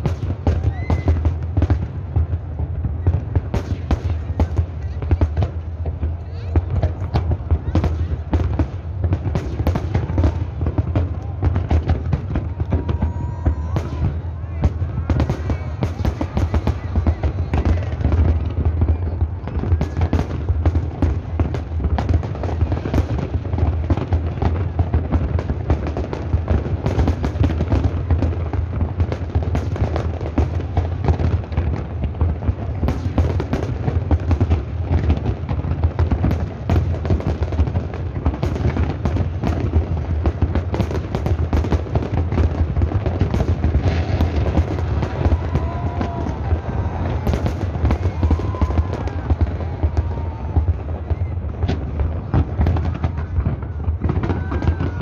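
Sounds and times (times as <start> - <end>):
fireworks bursts and crackles: 0.0 - 55.0.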